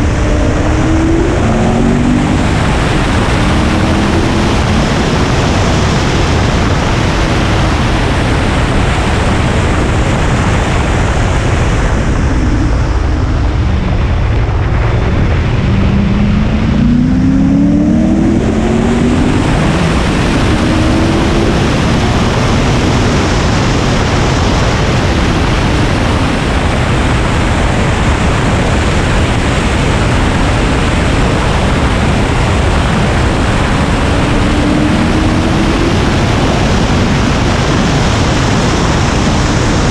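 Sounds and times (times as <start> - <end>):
car engine accelerating: 0.0 - 39.9
wind rush on microphone: 0.0 - 39.9.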